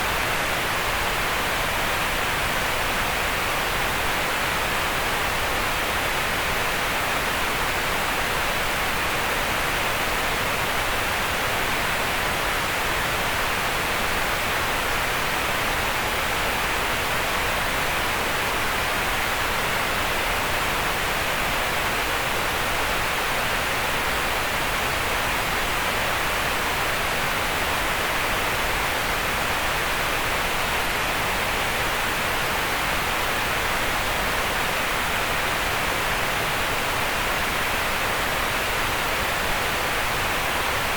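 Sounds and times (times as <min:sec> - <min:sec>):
steady green noise hiss: 0:00.0 - 0:40.9.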